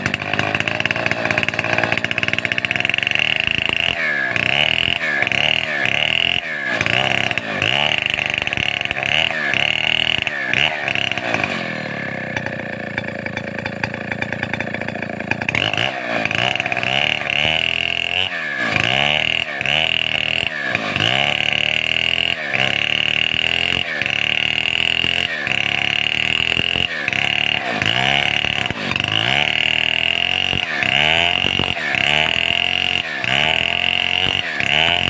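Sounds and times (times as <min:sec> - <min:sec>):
chainsaw running hard: 0:00.0 - 0:35.0.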